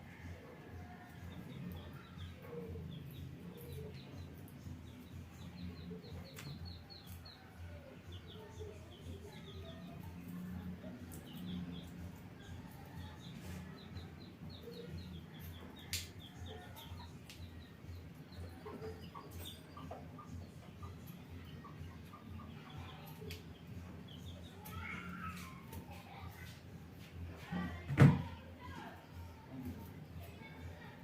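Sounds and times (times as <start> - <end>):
small birds chirping: 0.0 - 27.8.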